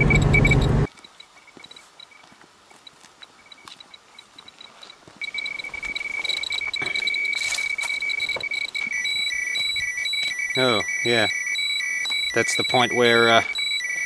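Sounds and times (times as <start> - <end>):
dosimeter beeping: 0.0 - 14.0
steady high alarm tone: 0.0 - 14.0.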